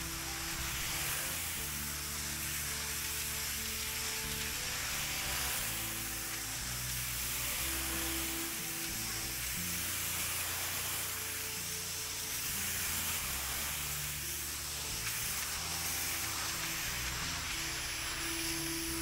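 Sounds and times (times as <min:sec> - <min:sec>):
pressure washer spray hissing: 0:00.0 - 0:19.0.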